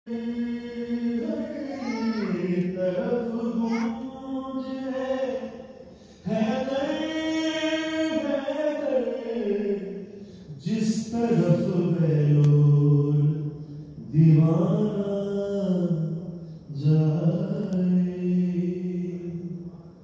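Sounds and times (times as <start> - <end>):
person chanting devotional song: 0.1 - 20.0.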